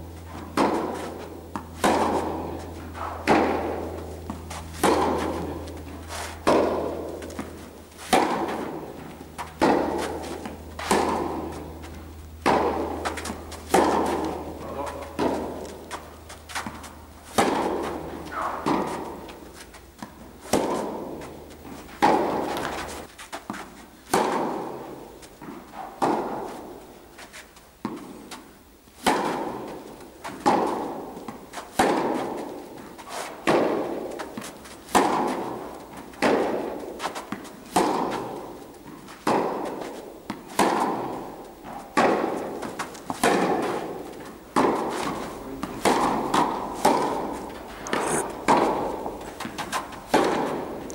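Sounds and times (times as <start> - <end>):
tennis balls bouncing on court: 0.0 - 50.9
tennis balls struck by rackets: 0.0 - 50.9.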